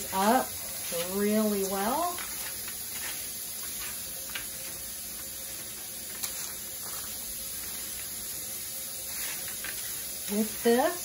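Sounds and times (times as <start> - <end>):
seeds rustling on baking sheet: 0.0 - 11.0.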